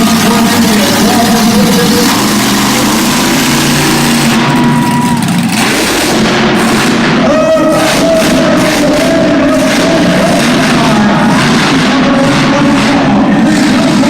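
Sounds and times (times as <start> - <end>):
monster truck engine running rough: 0.0 - 14.0.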